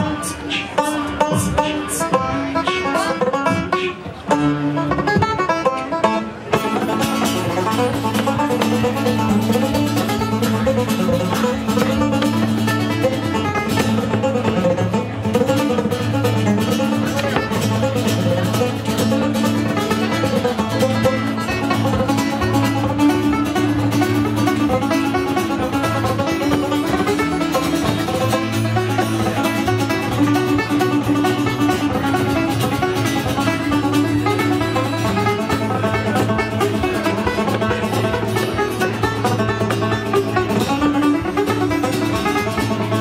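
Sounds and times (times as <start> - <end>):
acoustic guitar strumming: 0.0 - 43.0
banjo playing folk tune: 0.0 - 43.0
frame drum beat: 6.6 - 43.0.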